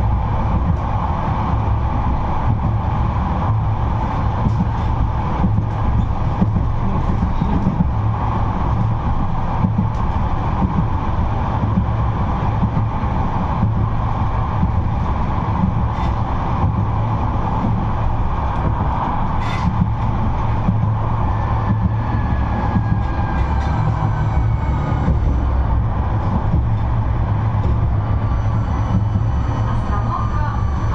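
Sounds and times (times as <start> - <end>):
tram wheels rumbling on rails: 0.0 - 30.9.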